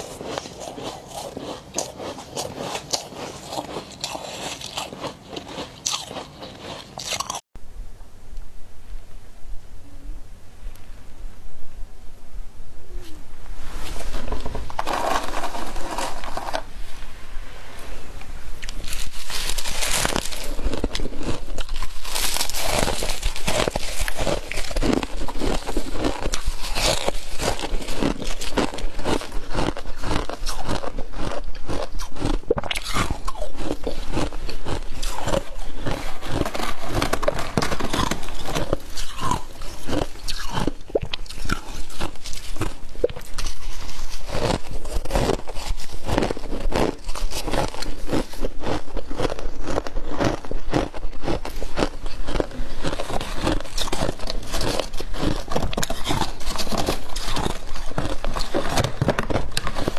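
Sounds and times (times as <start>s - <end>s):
person crunching frost: 0.0s - 7.4s, 13.7s - 17.1s, 17.8s - 59.9s.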